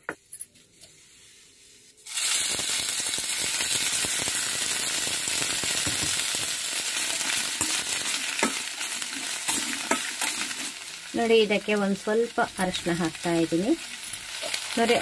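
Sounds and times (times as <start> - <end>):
okra sizzling in hot oil: 1.0 - 15.0.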